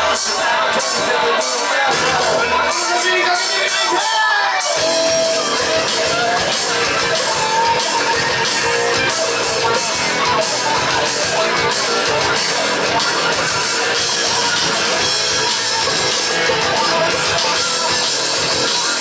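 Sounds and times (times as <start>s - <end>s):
drums steady beat: 0.0s - 19.0s
electric guitars: 0.0s - 19.0s
shouted singing vocal: 0.0s - 19.0s.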